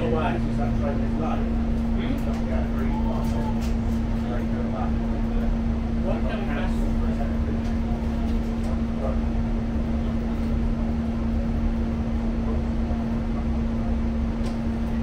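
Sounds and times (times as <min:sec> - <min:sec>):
constant hum: 0:00.0 - 0:15.0
train low rumble: 0:00.0 - 0:15.0.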